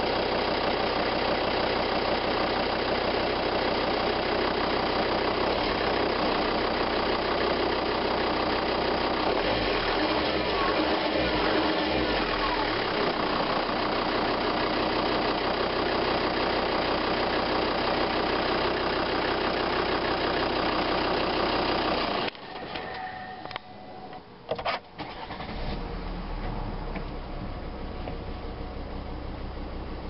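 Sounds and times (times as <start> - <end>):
diesel engine idling: 0.0 - 24.4, 25.0 - 30.0.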